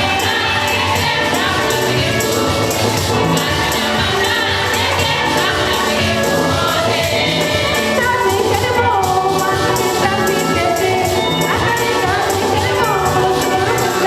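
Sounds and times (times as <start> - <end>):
choir singing gospel: 0.0 - 14.0
percussion beat: 0.0 - 14.0.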